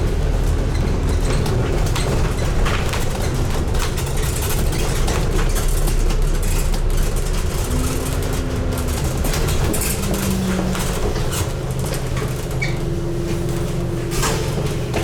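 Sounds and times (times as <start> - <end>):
bus engine rumbling: 0.0 - 15.0
interior rattles and clicks: 0.0 - 15.0.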